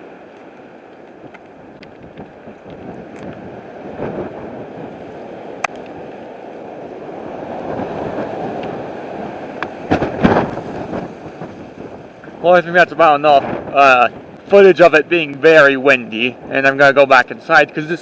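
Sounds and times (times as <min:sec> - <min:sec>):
strong gusting wind on microphone: 0:00.0 - 0:18.0.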